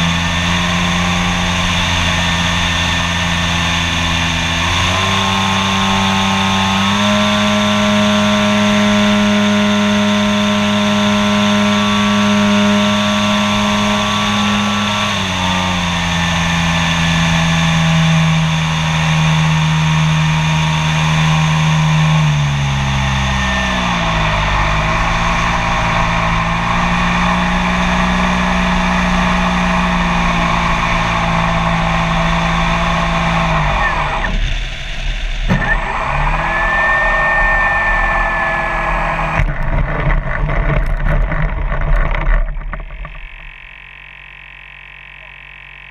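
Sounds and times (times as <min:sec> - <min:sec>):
model airplane motor and propeller: 0:00.0 - 0:45.9.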